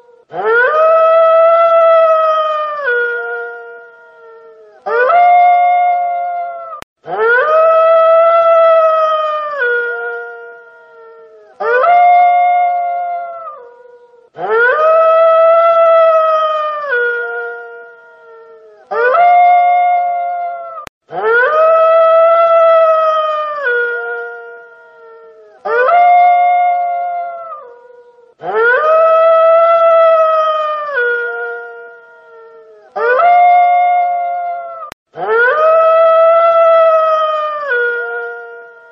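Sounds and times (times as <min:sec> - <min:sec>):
wolf howling: 0:00.0 - 0:38.9.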